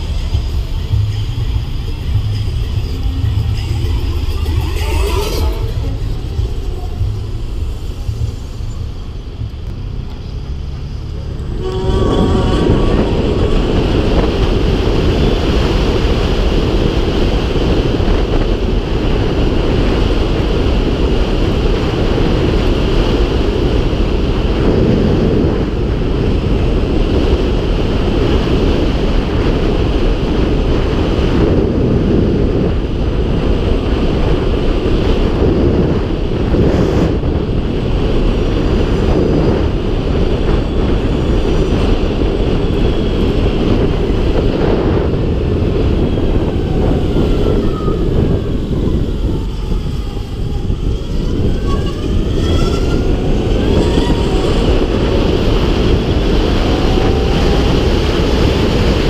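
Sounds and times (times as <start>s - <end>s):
low traffic rumble: 0.0s - 59.0s
wind buffeting microphone: 0.0s - 59.0s.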